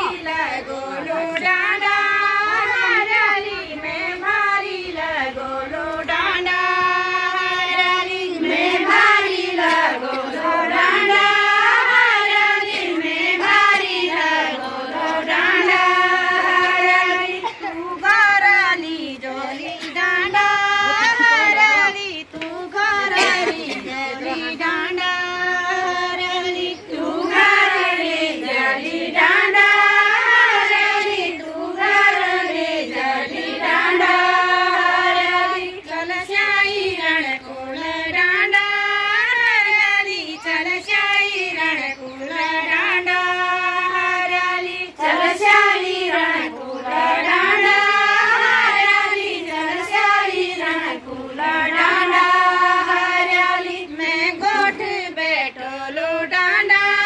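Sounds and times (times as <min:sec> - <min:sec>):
women singing unaccompanied: 0:00.0 - 0:57.0.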